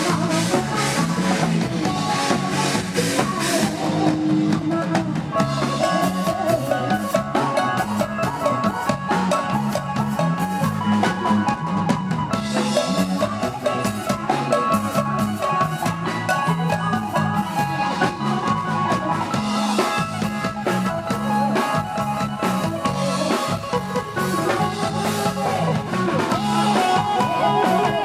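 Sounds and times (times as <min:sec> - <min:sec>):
drum kit beat: 0:00.0 - 0:28.0
live band music: 0:00.0 - 0:28.0.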